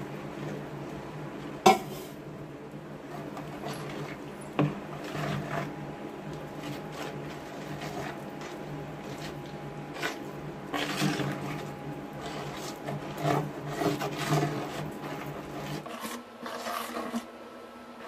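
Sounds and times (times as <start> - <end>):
paste mixed by hand in bowl: 0.0 - 17.4
steady low hum: 0.0 - 18.0.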